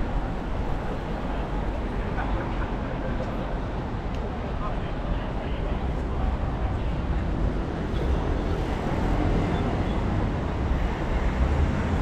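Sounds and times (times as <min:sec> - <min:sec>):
city street traffic noise: 0:00.0 - 0:12.0.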